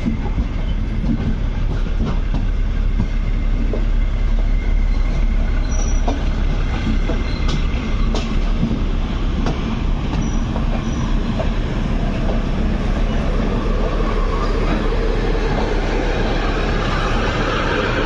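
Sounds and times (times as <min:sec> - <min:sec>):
train rumbling and rattling: 0:00.0 - 0:18.0.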